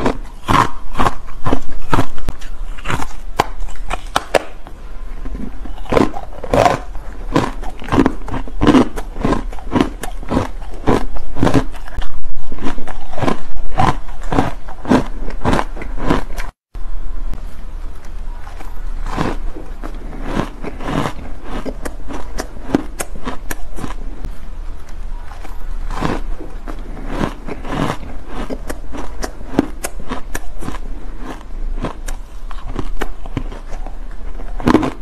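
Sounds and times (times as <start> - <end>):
ice crunching being chewed: 0.0 - 16.6, 18.1 - 24.0, 24.9 - 35.0.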